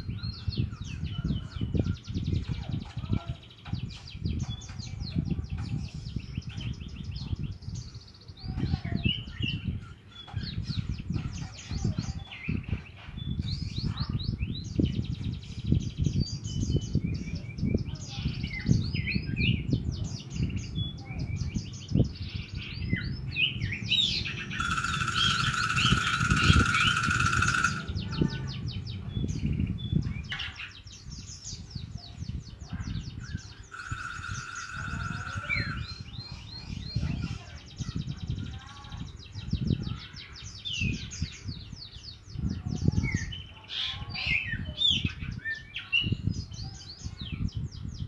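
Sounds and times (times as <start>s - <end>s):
bird chirping and trilling: 0.0s - 48.0s
buzzy bird song: 0.0s - 48.0s.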